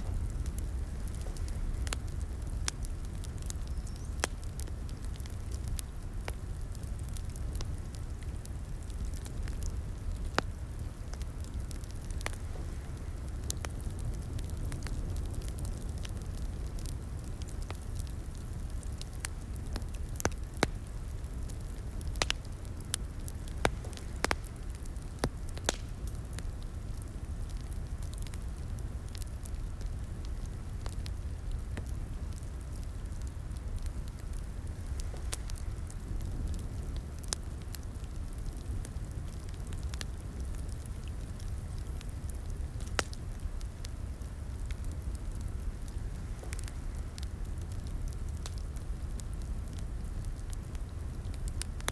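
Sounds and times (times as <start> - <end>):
fire popping and snapping: 0.0 - 51.9
low rumble of flames: 0.0 - 51.9.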